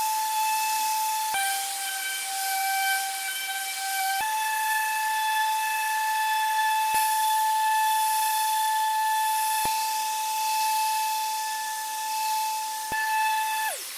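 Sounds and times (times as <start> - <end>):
dust extractor hiss: 0.0 - 13.9
orbital sander motor whine: 0.0 - 13.9.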